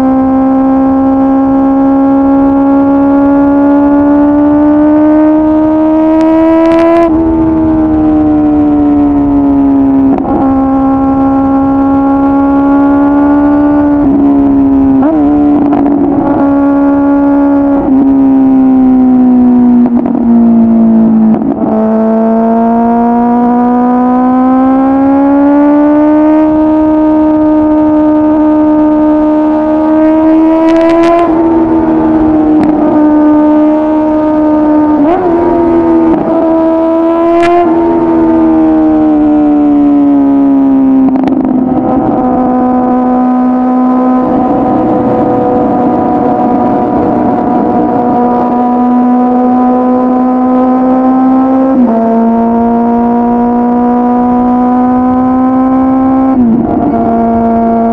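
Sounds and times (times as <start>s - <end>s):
motorcycle engine at high revs: 0.0s - 57.9s.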